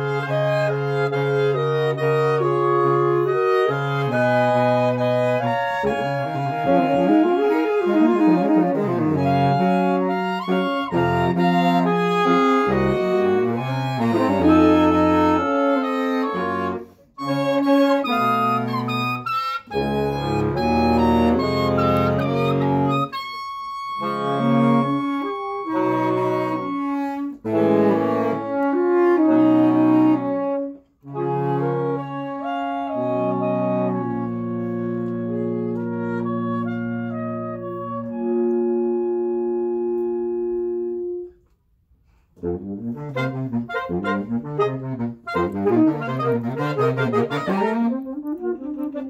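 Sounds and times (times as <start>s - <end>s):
saxophone quartet playing: 0.0s - 49.0s.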